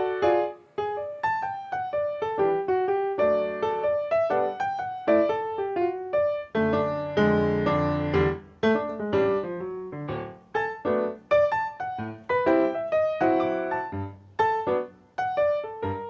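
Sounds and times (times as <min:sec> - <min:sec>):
gentle solo piano music: 0:00.0 - 0:16.0.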